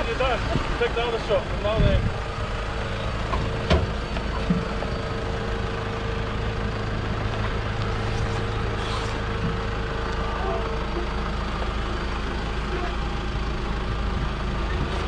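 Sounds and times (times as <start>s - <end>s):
engine idling with low drone: 0.0s - 15.0s.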